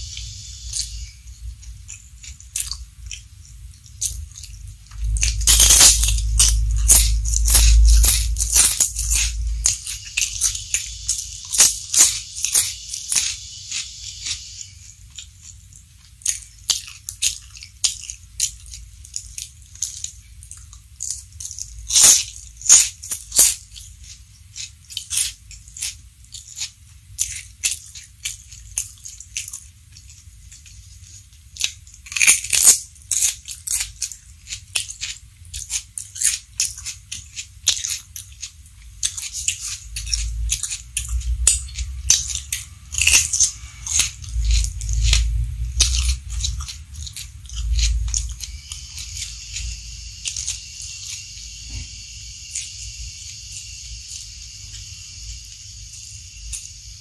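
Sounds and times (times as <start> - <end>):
crunching raw vegetables: 0.0 - 57.0.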